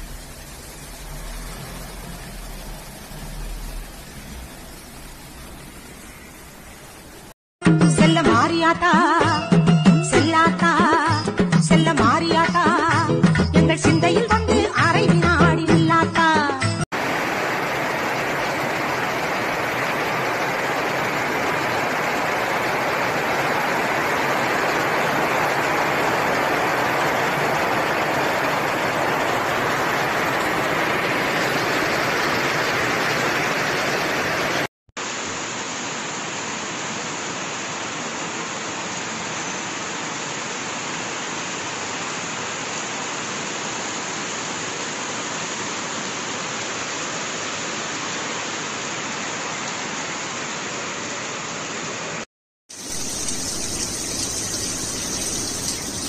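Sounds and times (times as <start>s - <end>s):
heavy rain pouring: 0.0s - 7.4s, 16.9s - 56.0s.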